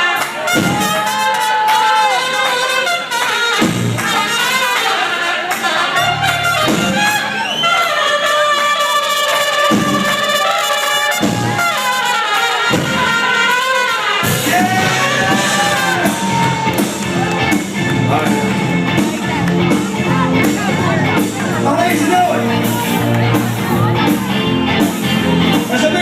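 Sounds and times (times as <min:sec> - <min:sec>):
band playing: 0:00.0 - 0:26.0
brass horn section playing: 0:00.0 - 0:26.0.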